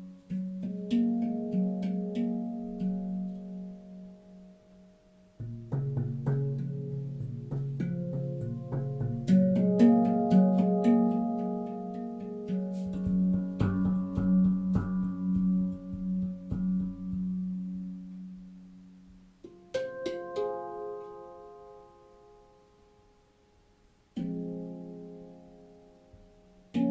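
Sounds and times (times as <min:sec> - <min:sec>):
sustained low handpan note: 0:00.0 - 0:23.1
handpan notes ringing: 0:00.0 - 0:23.2, 0:24.2 - 0:26.9.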